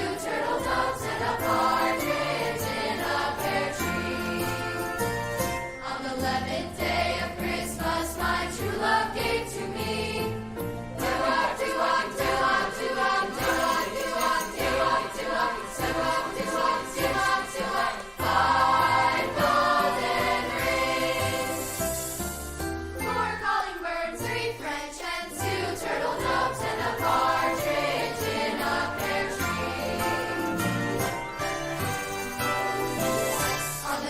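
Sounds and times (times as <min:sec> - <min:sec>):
choir singing christmas music: 0:00.0 - 0:34.0.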